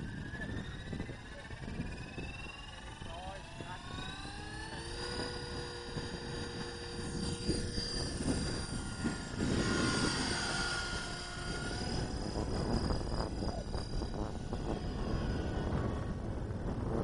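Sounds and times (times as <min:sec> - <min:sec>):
rc helicopter rotor whining: 0:00.0 - 0:17.0.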